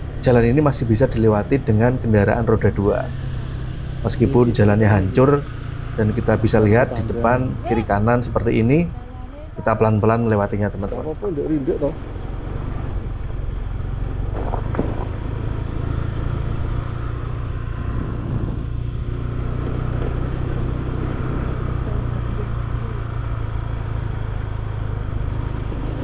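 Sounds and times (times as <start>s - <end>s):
motorcycle engine running slowly: 0.0s - 26.0s.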